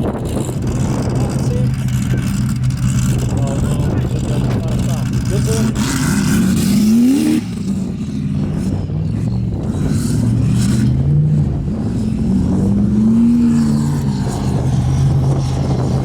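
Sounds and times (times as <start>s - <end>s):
race truck engine revving: 0.0s - 16.0s.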